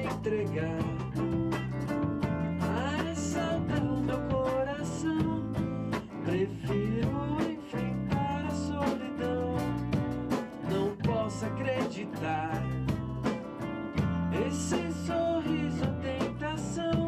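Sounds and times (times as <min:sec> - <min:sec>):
instrumental band music: 0:00.0 - 0:17.0
strummed guitar: 0:00.0 - 0:17.0.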